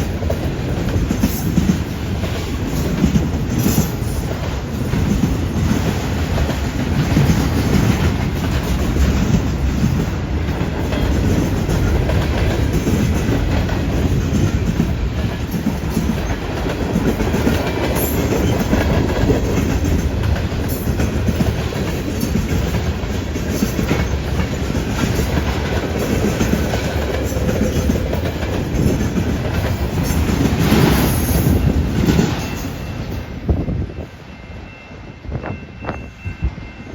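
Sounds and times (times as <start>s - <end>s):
freight train wheels clacking: 0.0s - 36.9s.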